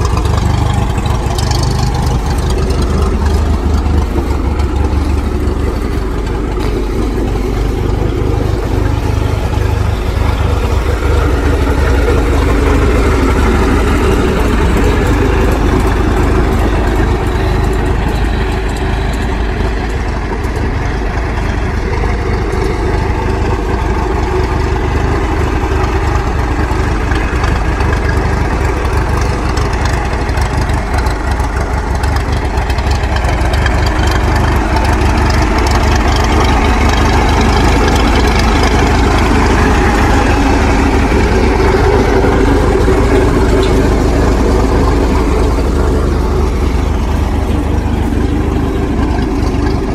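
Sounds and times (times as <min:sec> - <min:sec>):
tractor engine idling: 0:00.0 - 0:49.9.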